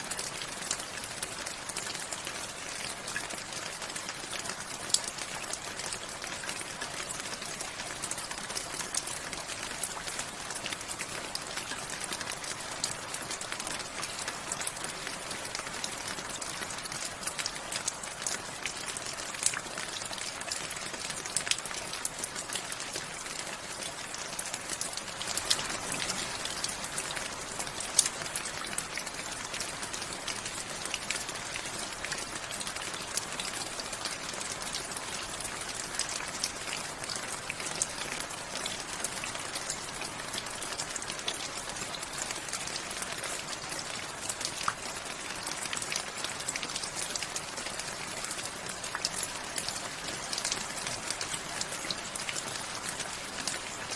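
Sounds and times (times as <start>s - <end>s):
raindrops ticking on surface: 0.0s - 53.9s
steady rainfall: 0.0s - 53.9s.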